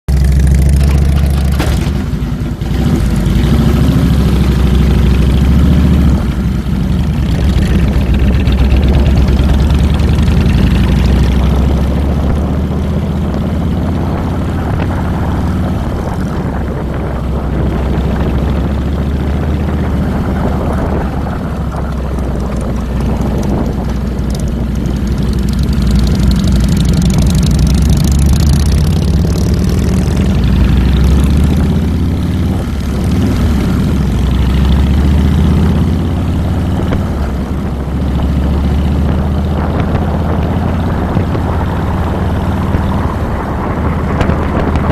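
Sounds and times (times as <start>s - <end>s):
motorcycle engine rumbling: 0.1s - 44.9s.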